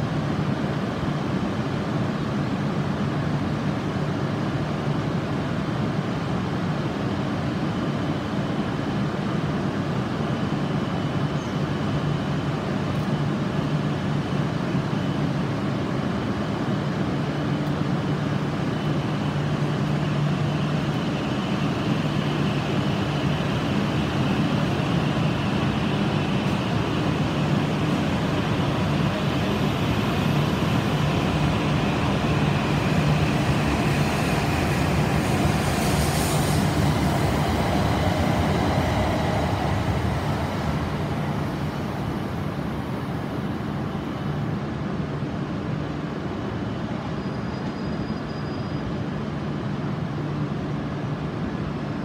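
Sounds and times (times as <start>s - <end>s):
train running past platform: 0.0s - 52.0s.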